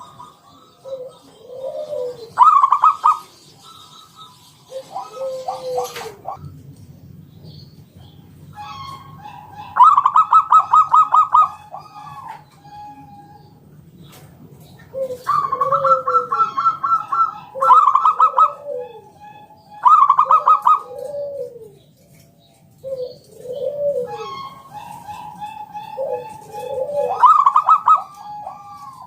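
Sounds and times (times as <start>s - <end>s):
dove song with arching coos: 0.0s - 29.0s.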